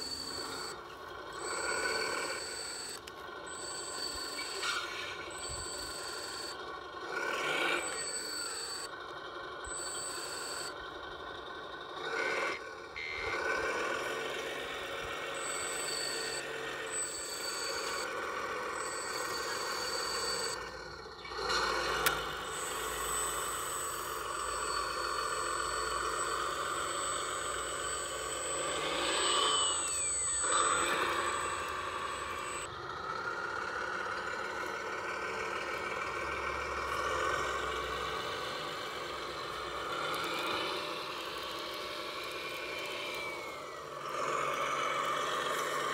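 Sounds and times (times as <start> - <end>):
high reversing beeps: 0.0 - 6.7, 7.4 - 8.9, 9.6 - 10.8, 13.0 - 32.7, 34.0 - 44.0
model truck engine noise: 0.0 - 45.9
motor whine: 0.0 - 45.9.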